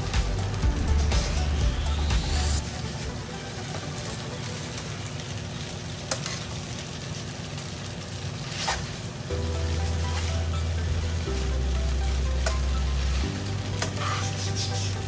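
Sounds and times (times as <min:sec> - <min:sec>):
food sizzling in frying pan: 0:00.0 - 0:15.0.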